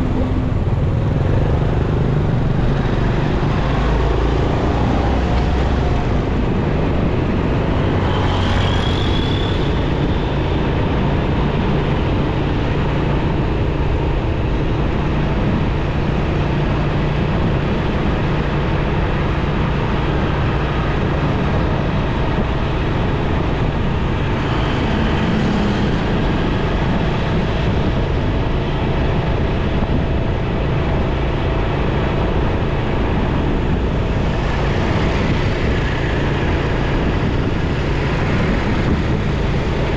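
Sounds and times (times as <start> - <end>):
city traffic: 0.0 - 39.9
motorcycle engine hum: 0.0 - 39.9
wind and road noise: 0.0 - 39.9.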